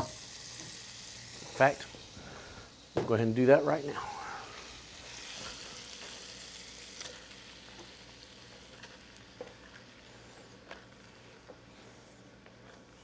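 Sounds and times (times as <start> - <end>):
sausage and vegetables sizzling: 0.0 - 13.0.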